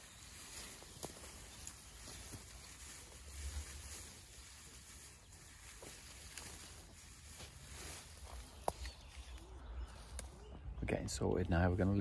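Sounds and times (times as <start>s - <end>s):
rustling of net and twigs: 0.0s - 10.4s.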